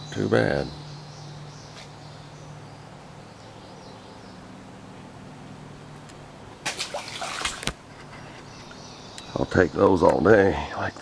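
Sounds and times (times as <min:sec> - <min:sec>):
outdoor stream ambience: 0:00.0 - 0:11.0.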